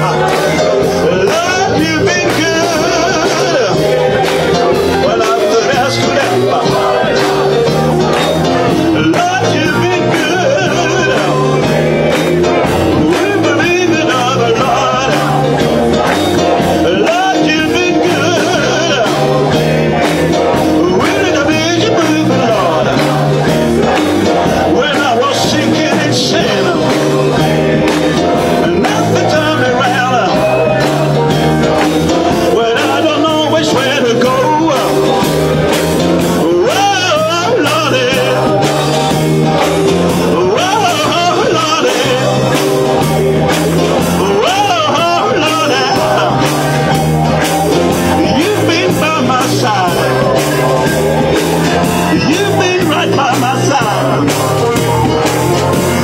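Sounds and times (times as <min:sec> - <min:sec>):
bass guitar: 0:00.0 - 0:56.0
electric guitar: 0:00.0 - 0:56.0
man singing: 0:00.0 - 0:56.0.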